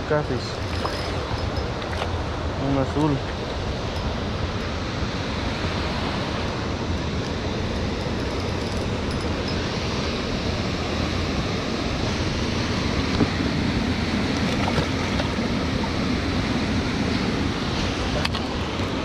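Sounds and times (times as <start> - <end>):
wind: 0.0 - 19.0
moving water around kayak: 0.1 - 19.0.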